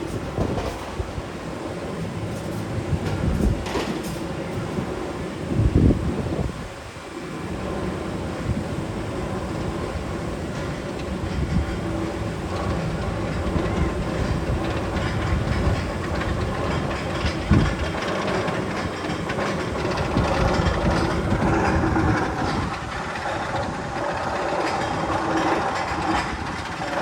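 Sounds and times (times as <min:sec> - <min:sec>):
roller coaster rumbling on track: 0:00.0 - 0:27.0
track clacking: 0:00.0 - 0:27.0.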